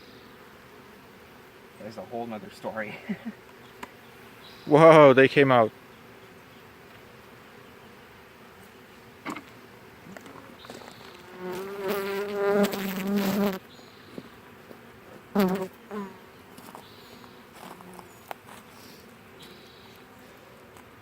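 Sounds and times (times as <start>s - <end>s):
bee flying past close: 0.0s - 4.7s, 5.3s - 21.0s
honeybees buzzing: 0.0s - 21.0s.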